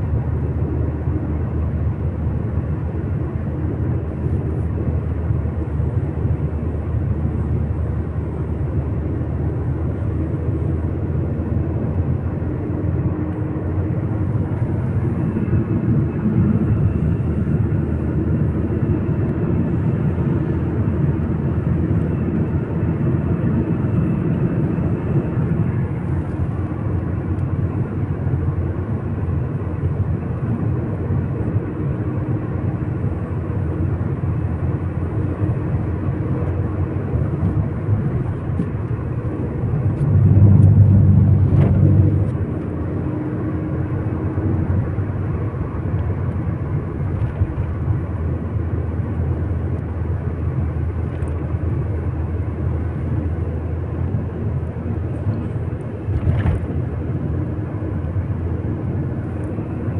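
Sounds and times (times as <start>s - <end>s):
vehicle road and engine rumble: 0.0s - 59.9s.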